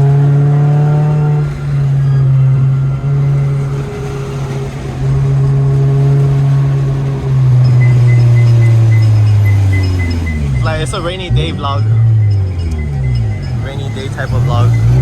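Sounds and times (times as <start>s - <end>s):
car engine pulling under load: 0.0s - 15.0s.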